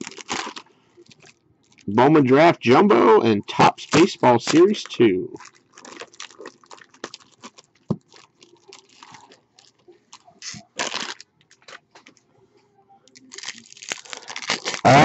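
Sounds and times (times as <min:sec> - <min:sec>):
foil wrapper crinkling and tearing: 0:00.0 - 0:01.9, 0:03.6 - 0:12.2, 0:13.1 - 0:15.0.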